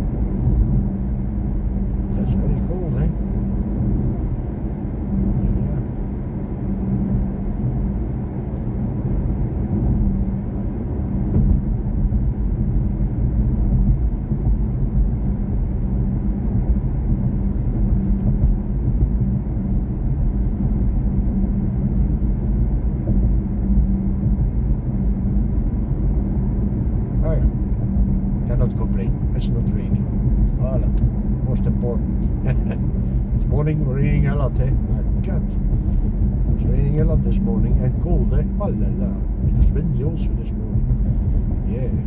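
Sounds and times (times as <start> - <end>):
road and tyre rumble: 0.0 - 42.0.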